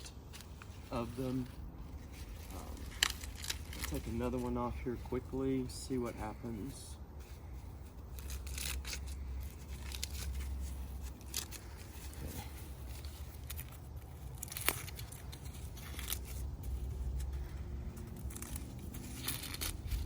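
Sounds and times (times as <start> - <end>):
corn husks tearing and rustling: 0.0 - 20.0.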